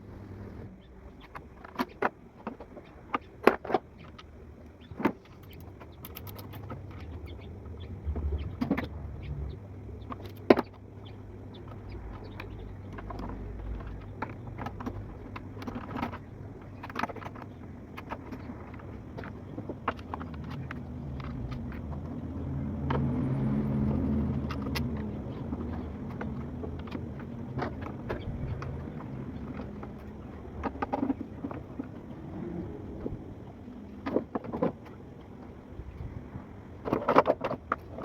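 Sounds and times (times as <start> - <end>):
low steady hum: 0.0 - 38.0
sharp metallic clicks and knocks: 1.2 - 32.0.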